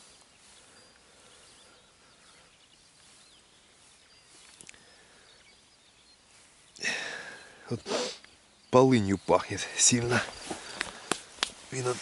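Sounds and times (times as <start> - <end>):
faint high bird chirps: 0.0 - 10.8.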